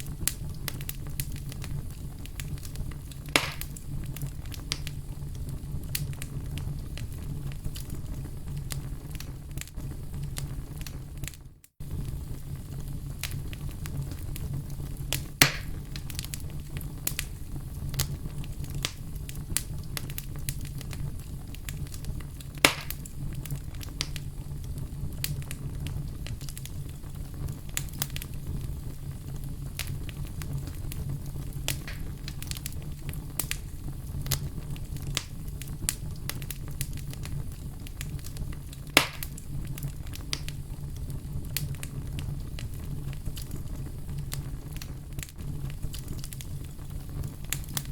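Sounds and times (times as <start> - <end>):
loud fire pops: 0.0 - 47.9
wood fire crackling: 0.0 - 47.9.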